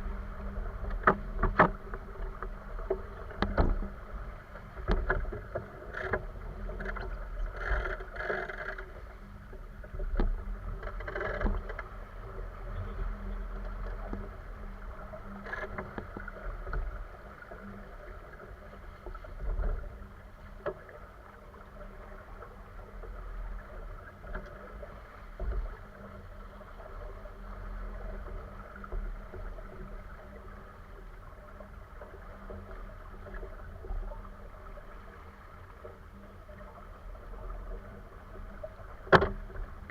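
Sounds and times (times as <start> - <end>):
water washing against hull: 0.0 - 39.9.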